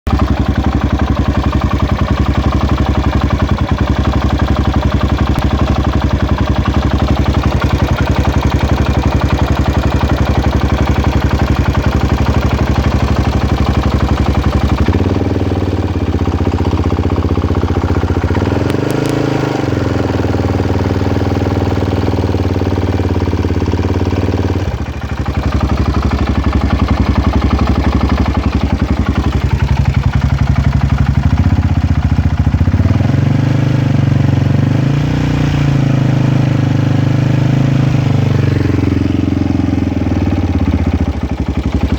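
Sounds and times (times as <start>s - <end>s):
engine running with rough clatter: 0.0s - 41.9s.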